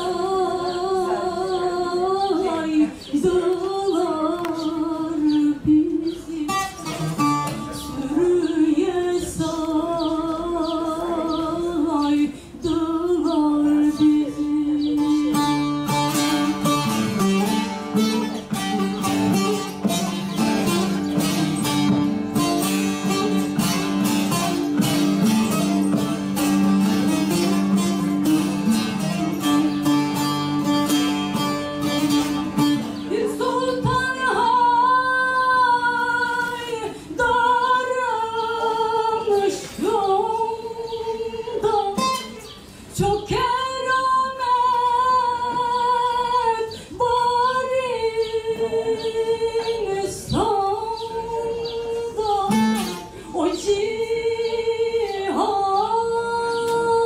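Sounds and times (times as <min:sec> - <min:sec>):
woman singing: 0:00.0 - 0:57.0
long-necked lute strumming: 0:02.6 - 0:11.8, 0:13.1 - 0:46.6, 0:47.6 - 0:55.5.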